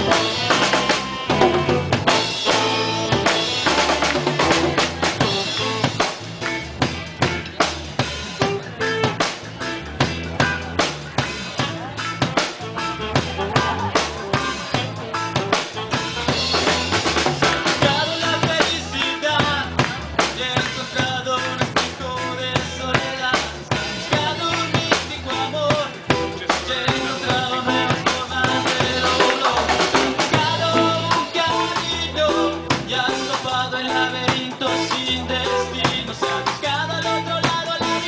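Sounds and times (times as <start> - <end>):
drum kit rimshots and snare: 0.0 - 38.0
reggae rock band playing: 0.0 - 38.0.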